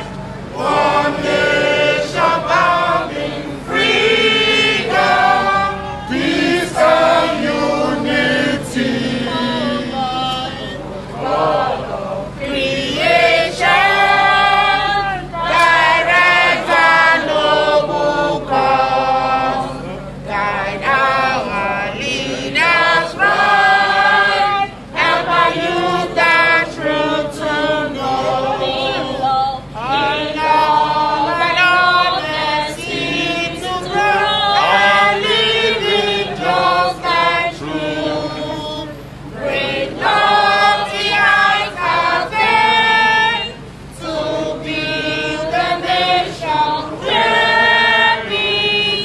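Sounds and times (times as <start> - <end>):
crowd singing in chorus: 0.0 - 49.0.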